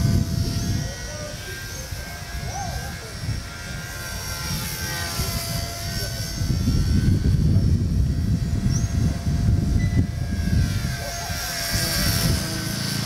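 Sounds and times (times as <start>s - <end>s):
rc helicopter motors whining: 0.0s - 13.0s
wind on microphone: 0.0s - 13.0s.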